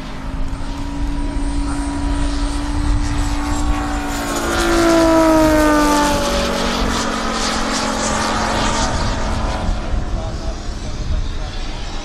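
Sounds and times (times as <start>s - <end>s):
aircraft engines droning past: 0.0s - 12.0s
faint high whine: 0.0s - 12.0s.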